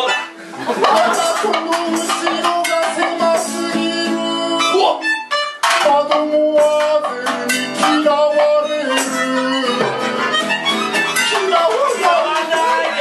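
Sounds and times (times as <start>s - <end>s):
melodica held notes: 0.0s - 13.0s
small drums: 0.0s - 13.0s
strummed acoustic guitar: 0.0s - 13.0s.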